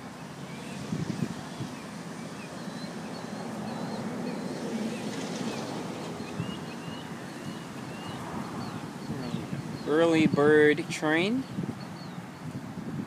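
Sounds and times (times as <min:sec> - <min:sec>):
wind on microphone: 0:00.6 - 0:13.0.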